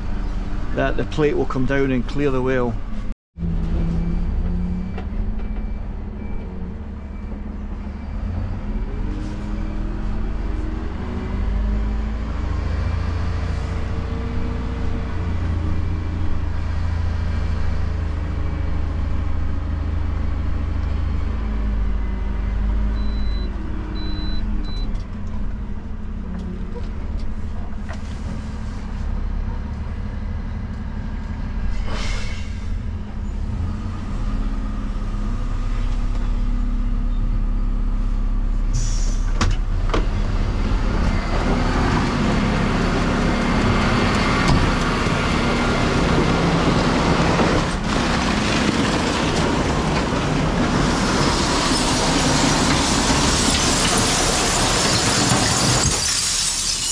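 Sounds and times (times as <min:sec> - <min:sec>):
diesel truck engine revving: 0:03.4 - 0:24.9, 0:29.1 - 0:56.6.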